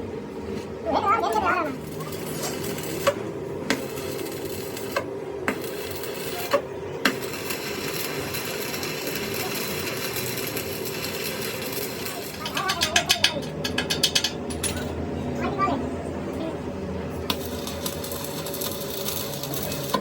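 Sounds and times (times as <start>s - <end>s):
machine humming: 0.0s - 12.6s, 13.4s - 20.0s.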